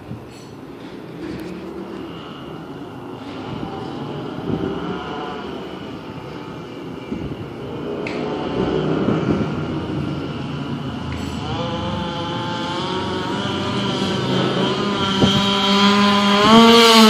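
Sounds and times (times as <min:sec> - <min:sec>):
small two-stroke engine buzzing: 0:00.8 - 0:17.0.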